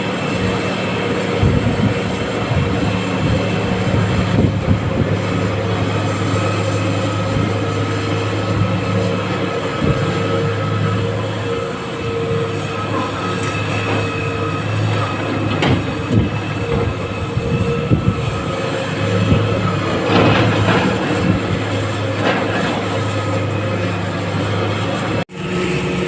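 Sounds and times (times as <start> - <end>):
excavator diesel engine running: 0.0 - 26.0
held whine: 0.0 - 26.0.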